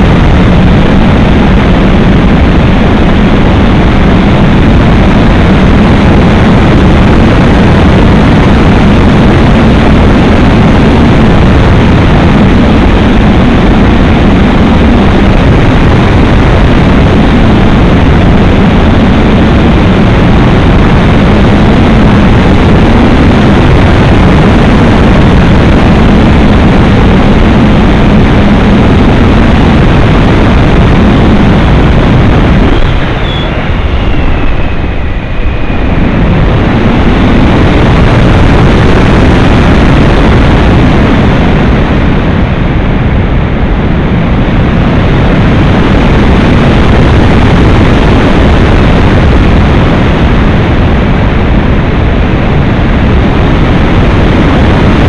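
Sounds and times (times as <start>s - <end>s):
airflow rushing over camera: 0.0s - 47.9s
low wavering hum: 0.0s - 55.0s.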